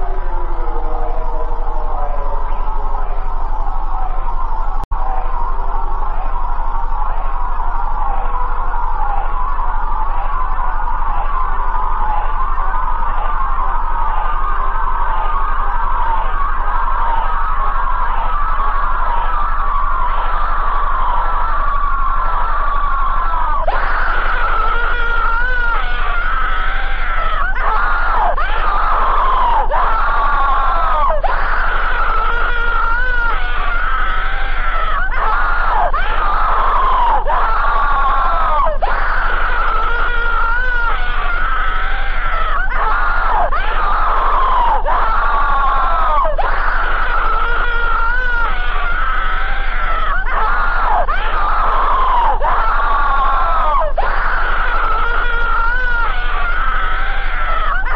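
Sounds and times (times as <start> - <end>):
loud screaming wails: 0.0 - 57.9.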